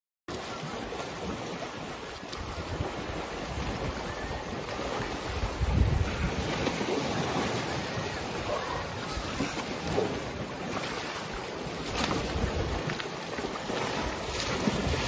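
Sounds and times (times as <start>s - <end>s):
elephants splashing through water: 0.3s - 15.0s
wind buffeting microphone: 0.7s - 15.0s.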